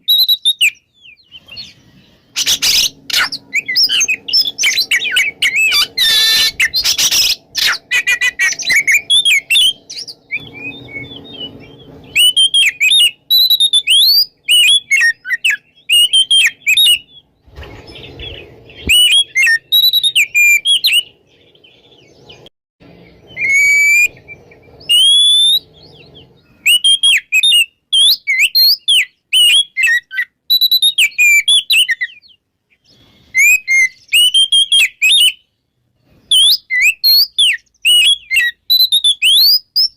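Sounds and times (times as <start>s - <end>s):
songbird whistling and chirping: 0.0s - 39.9s.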